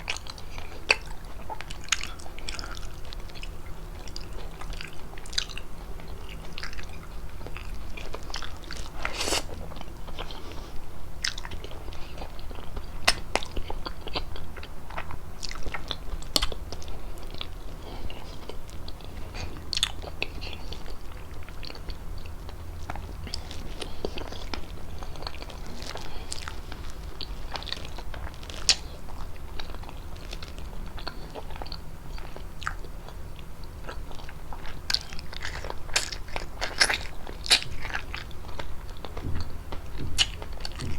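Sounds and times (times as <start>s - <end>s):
chewing and mouth sounds: 0.0s - 40.9s
faint low hum: 0.0s - 40.9s.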